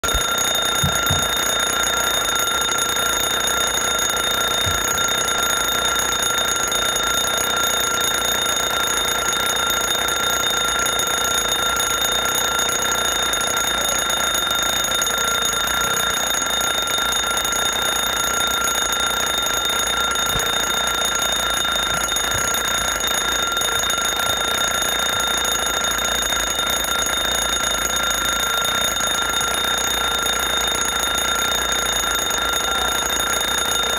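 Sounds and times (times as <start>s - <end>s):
alarm clock ringing: 0.0s - 33.9s.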